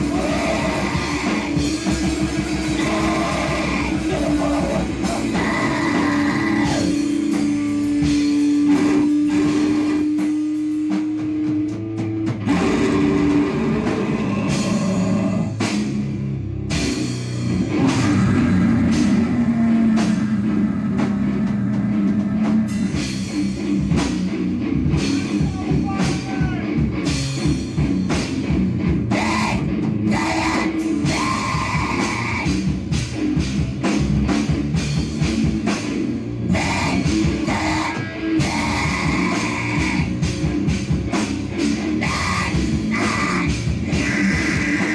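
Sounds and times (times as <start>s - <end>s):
distorted guitar: 0.0s - 44.9s.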